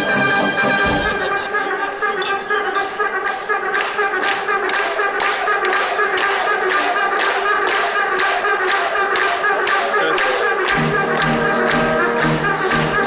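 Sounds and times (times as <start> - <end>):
brass band playing a march: 0.0 - 13.0
audience clapping in time: 0.8 - 13.0.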